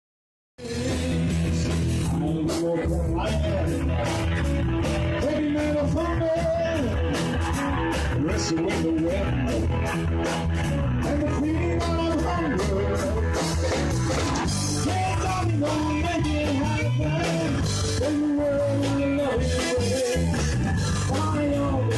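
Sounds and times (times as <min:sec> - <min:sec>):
electric guitar lead melody: 0:00.6 - 0:21.9
rock band playing: 0:00.6 - 0:21.9.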